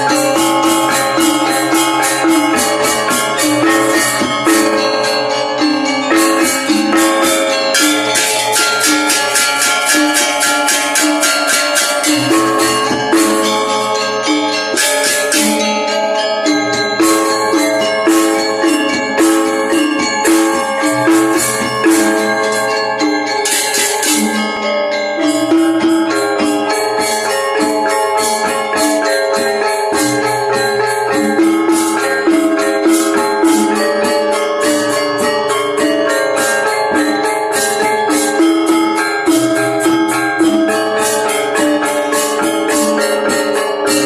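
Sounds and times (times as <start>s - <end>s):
gong-chimes ringing: 0.0s - 44.0s
metallophones ringing: 0.0s - 44.0s
sharp high metallic strikes: 0.0s - 44.0s.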